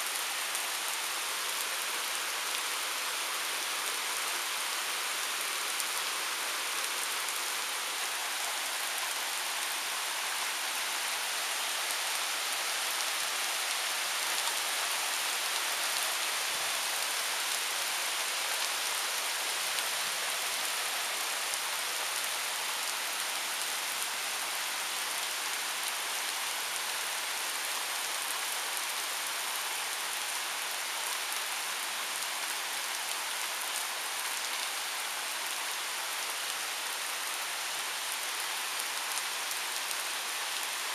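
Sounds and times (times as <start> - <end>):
heavy rain on asphalt: 0.0 - 40.9.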